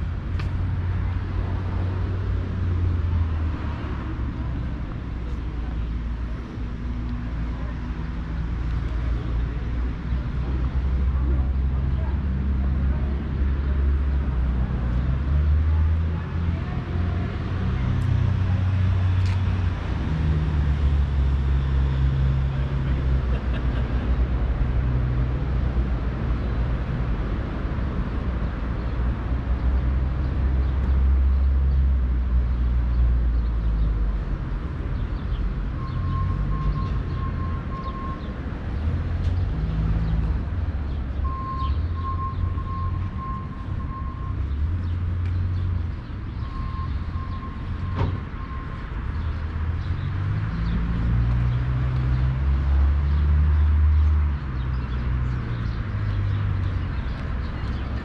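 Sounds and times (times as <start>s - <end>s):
passing car and bus engines: 0.0s - 58.0s.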